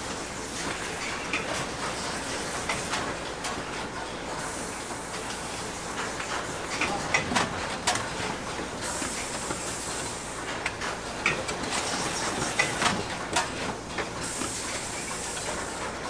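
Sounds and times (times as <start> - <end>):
packing machinery running: 0.0 - 16.0.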